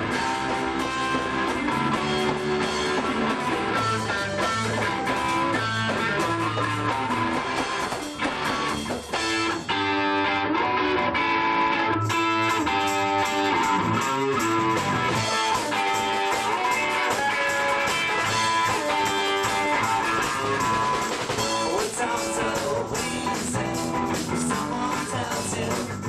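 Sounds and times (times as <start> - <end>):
drum kit beat: 0.0 - 10.4, 11.2 - 26.0
bass guitar: 0.0 - 26.0
electric guitar: 0.0 - 26.0.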